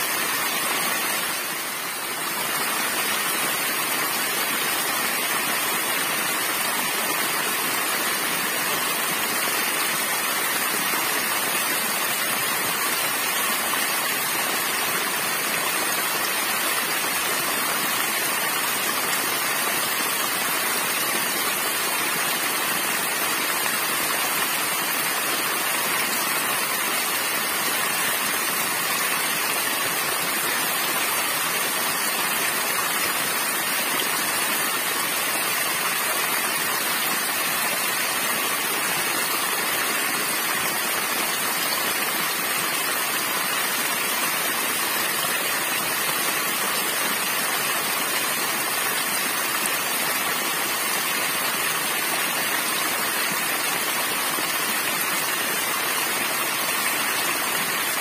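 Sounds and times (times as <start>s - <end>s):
small waterfall splashing on rocks: 0.0s - 58.0s.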